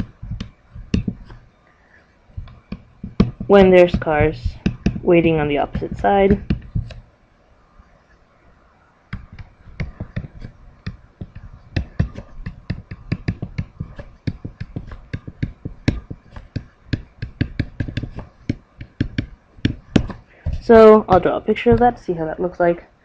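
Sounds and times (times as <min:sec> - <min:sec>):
stylus tapping on tablet screen: 0:00.0 - 0:01.5, 0:02.4 - 0:07.1, 0:09.1 - 0:22.0.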